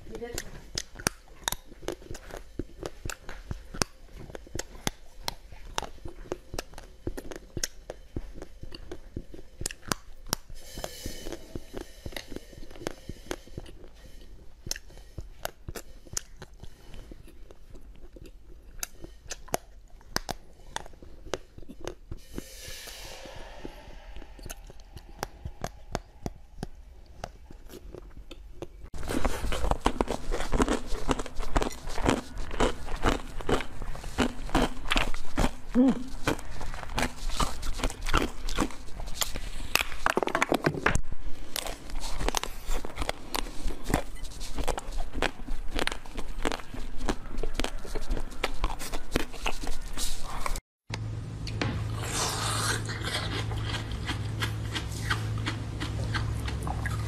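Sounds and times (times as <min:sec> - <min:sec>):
crunchy chewing of hard treats: 0:00.1 - 0:22.4, 0:23.5 - 0:50.6, 0:52.0 - 0:57.0.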